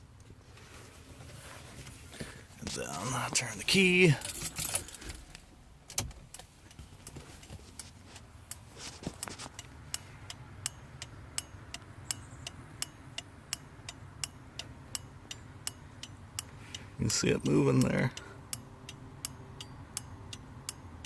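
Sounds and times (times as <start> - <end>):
turn signal relay clicking: 2.6 - 21.0.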